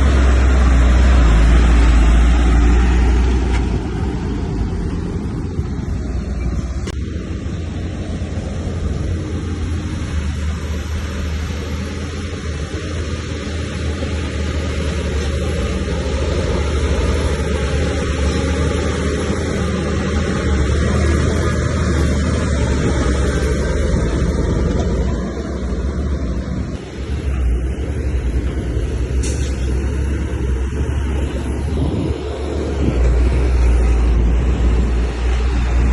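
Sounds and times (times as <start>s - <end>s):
diesel earthmoving machinery rumbling: 0.0s - 35.9s.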